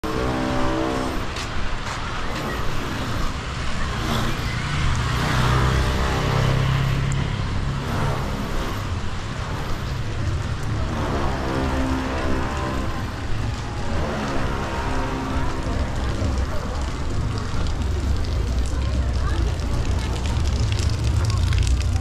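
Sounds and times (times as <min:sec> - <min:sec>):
rain: 0:00.0 - 0:22.0
tyres hissing on wet pavement: 0:00.0 - 0:22.0.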